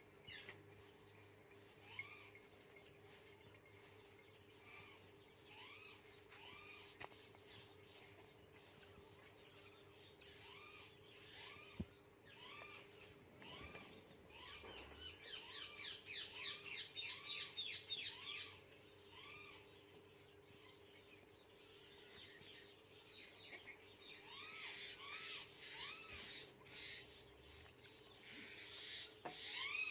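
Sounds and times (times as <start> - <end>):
bird calls: 0.0 - 29.9.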